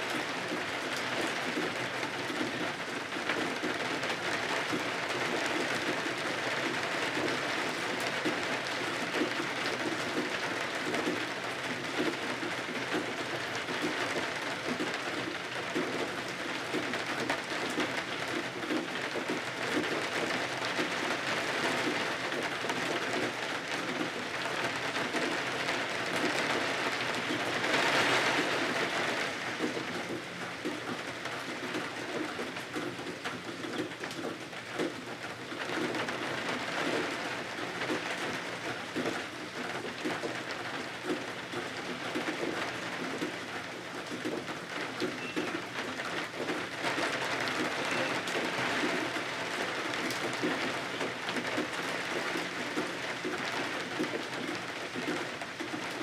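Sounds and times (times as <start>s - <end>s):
steady rain hiss: 0.0s - 45.0s, 45.6s - 56.0s.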